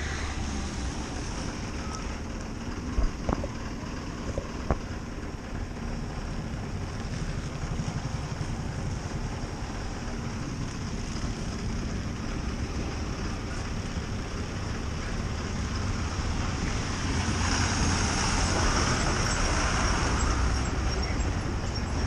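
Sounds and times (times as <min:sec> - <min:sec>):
trucks and bus passing: 0:00.0 - 0:22.0.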